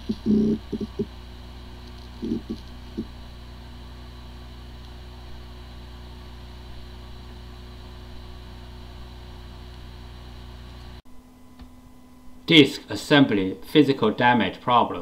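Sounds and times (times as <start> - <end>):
hard drive seek sounds: 0.0 - 12.4
hard drive spinning hum: 0.0 - 13.8.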